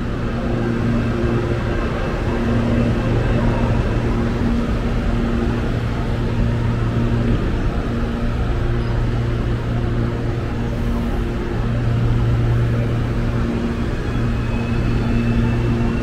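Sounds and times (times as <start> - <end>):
electric train hum: 0.0 - 16.0.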